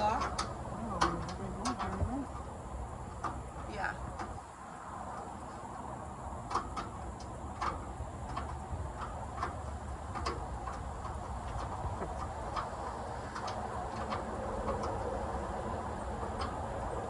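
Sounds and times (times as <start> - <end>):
hand tools tapping on metal: 0.0 - 4.5, 5.1 - 17.0
steady low hum: 0.0 - 17.0.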